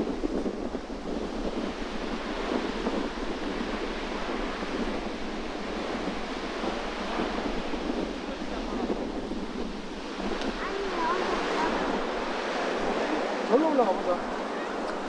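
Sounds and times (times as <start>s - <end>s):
surf on rocks: 0.0s - 15.0s
wind buffeting microphone: 0.0s - 15.0s.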